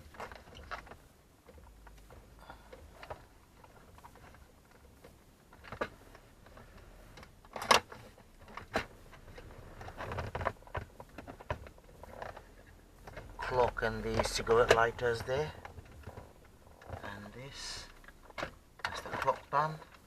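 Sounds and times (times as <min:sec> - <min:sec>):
plastic rattling: 0:00.0 - 0:20.0.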